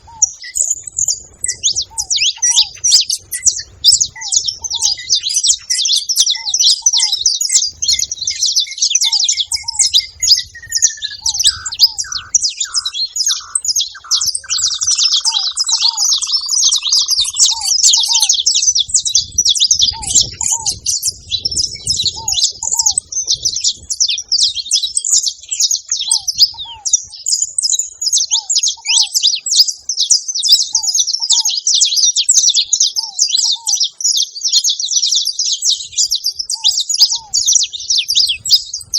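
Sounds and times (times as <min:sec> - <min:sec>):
finches twittering: 0:00.0 - 0:38.9.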